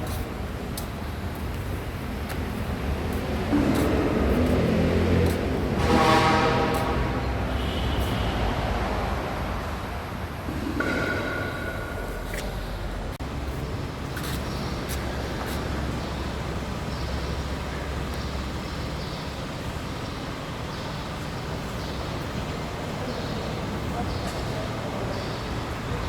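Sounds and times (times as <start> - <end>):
motor vehicle rumble: 0.0 - 26.0
road and traffic noise: 0.0 - 26.0.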